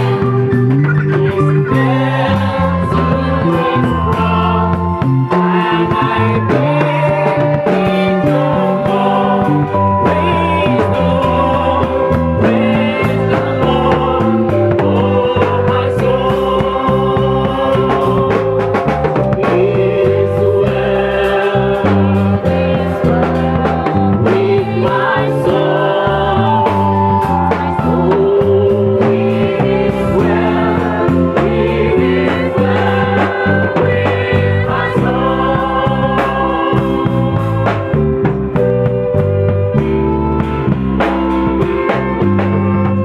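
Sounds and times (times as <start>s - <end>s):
band playing: 0.0s - 43.0s
bass line: 0.0s - 43.0s
choir singing gospel: 0.0s - 43.0s.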